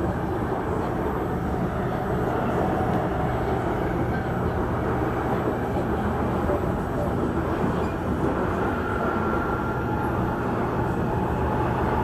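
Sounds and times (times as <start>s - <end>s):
metro train rumbling on rails: 0.0s - 12.0s.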